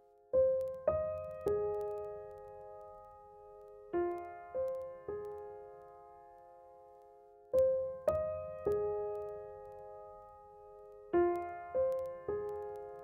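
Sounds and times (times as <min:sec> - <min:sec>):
gentle piano notes: 0:00.0 - 0:13.0.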